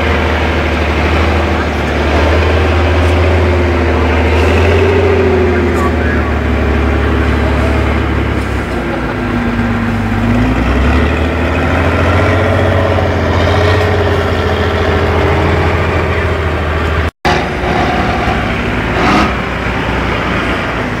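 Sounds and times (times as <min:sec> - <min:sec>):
truck diesel engine under load: 0:00.0 - 0:21.0.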